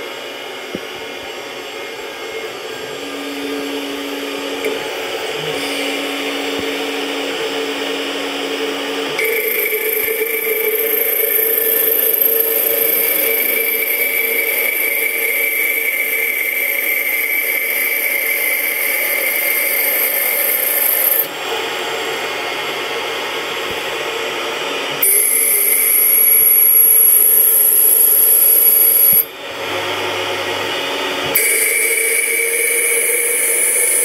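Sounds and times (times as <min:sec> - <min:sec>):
spindle high whine: 0:00.0 - 0:34.0.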